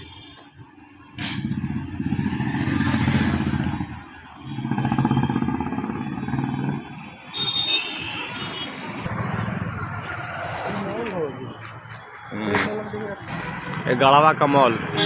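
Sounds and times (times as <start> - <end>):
motorcycle engines: 0.0 - 15.0.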